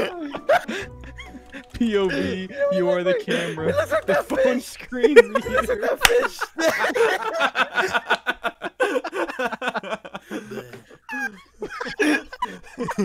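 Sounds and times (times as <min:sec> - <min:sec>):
people laughing over voice chat: 0:00.0 - 0:13.0.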